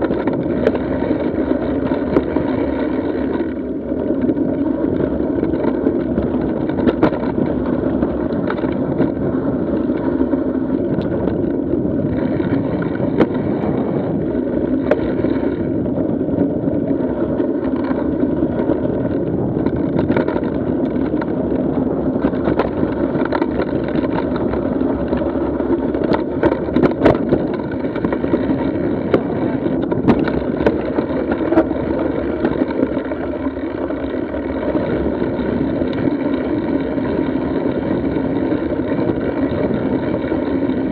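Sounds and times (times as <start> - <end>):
bike rattling over rocks: 0.0 - 40.9
bike tyres rumbling on dirt: 0.0 - 40.9.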